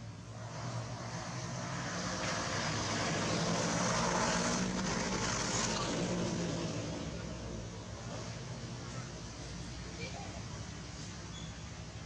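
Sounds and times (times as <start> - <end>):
passing motor vehicle engine: 0.0 - 12.0.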